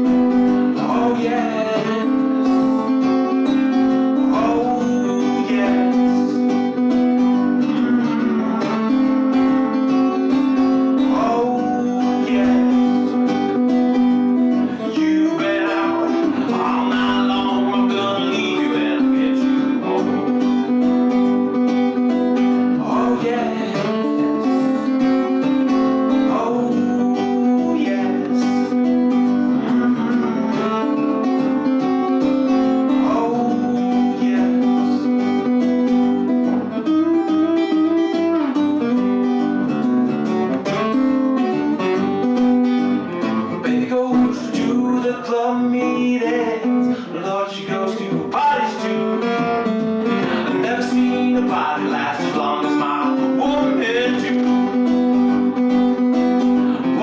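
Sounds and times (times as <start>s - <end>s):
acoustic blues guitar: 0.0s - 57.0s.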